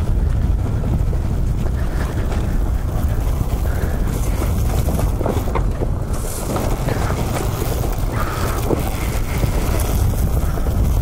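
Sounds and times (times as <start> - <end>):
dirt bike engine running: 0.0 - 11.0
wind buffeting microphone: 0.0 - 11.0.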